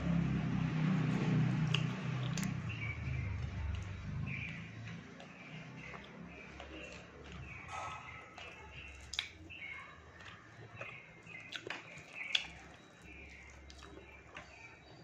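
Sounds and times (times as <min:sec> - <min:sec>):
chewing: 0:01.1 - 0:15.0.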